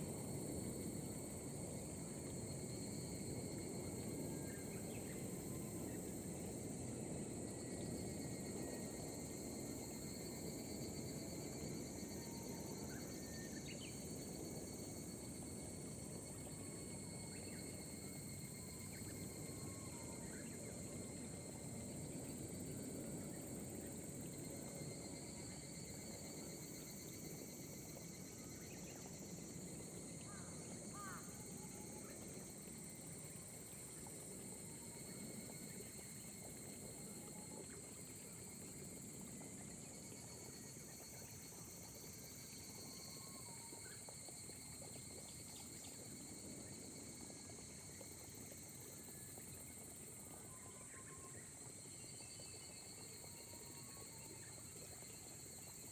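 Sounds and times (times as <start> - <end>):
gentle rain hiss: 0.0 - 55.9
insects trilling: 0.0 - 55.9.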